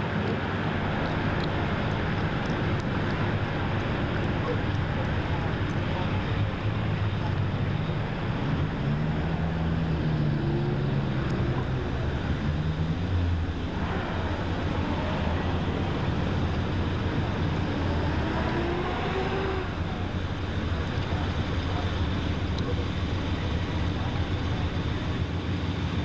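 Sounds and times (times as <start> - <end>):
large engine humming: 0.0 - 26.0.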